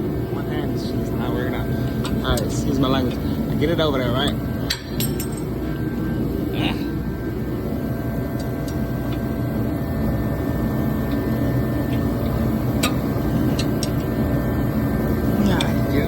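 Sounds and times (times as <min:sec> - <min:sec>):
droning machine noise: 0:00.0 - 0:16.0
faint even hum: 0:00.0 - 0:16.0.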